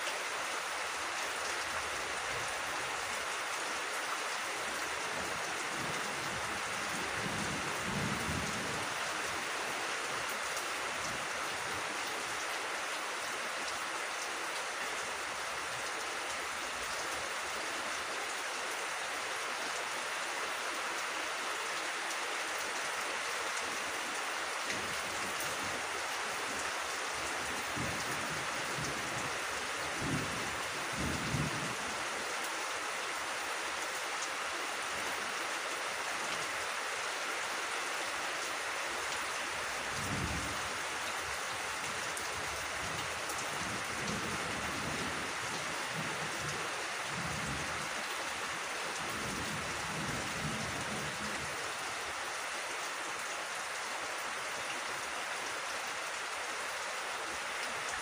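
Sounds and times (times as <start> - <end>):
rain on leaves and grass: 0.0 - 58.0.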